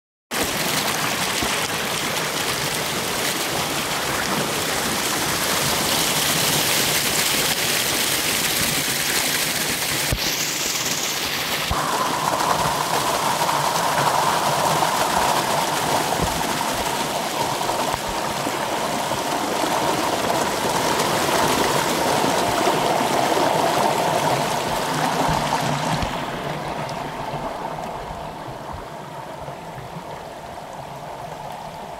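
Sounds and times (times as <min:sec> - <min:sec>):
waterfall rushing over rocks: 0:00.4 - 0:31.9.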